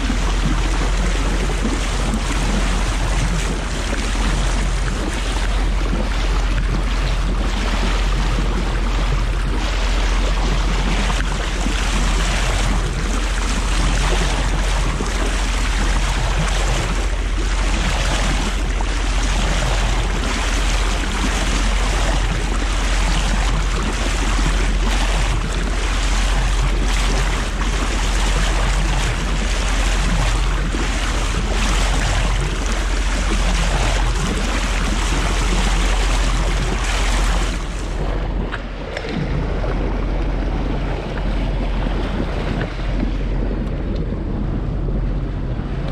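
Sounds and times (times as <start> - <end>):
bow wave splashing along hull: 0.0 - 45.9
low rumble: 0.0 - 45.9.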